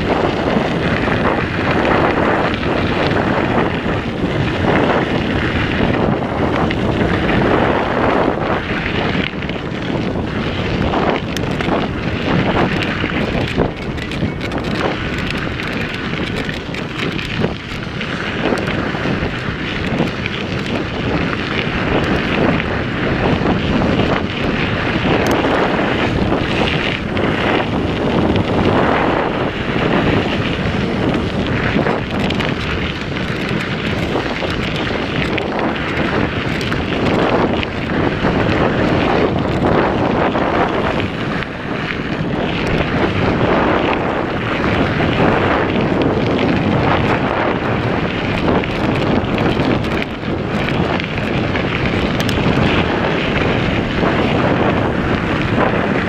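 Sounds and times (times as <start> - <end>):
bike tyres rattling over gravel: 0.0 - 56.0
wind buffeting microphone: 0.0 - 56.0.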